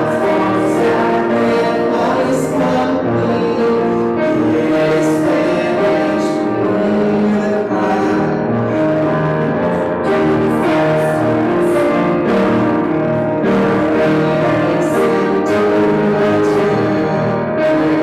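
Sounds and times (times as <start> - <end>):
hymn singing: 0.0 - 18.0
piano accompaniment: 0.0 - 18.0.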